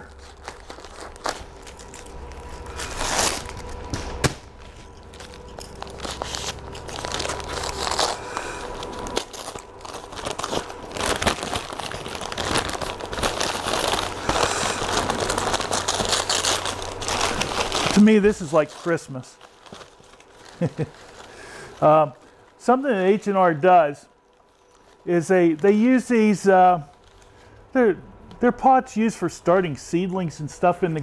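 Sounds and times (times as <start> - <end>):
newspaper crinkling and rustling: 0.0 - 27.7.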